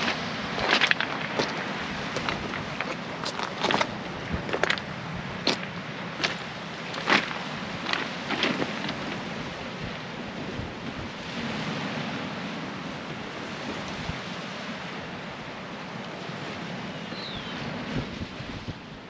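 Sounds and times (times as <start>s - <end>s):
wind buffeting microphone: 0.0s - 14.7s, 16.5s - 19.0s
waves washing onto pebbles: 0.0s - 16.9s.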